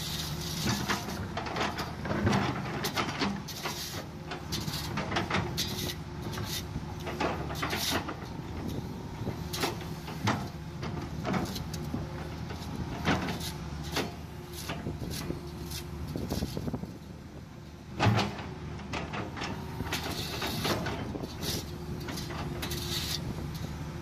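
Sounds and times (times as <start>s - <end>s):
knocks and scraping clatter: 0.0s - 17.1s, 17.8s - 23.8s
excavator diesel engine running: 0.0s - 24.0s.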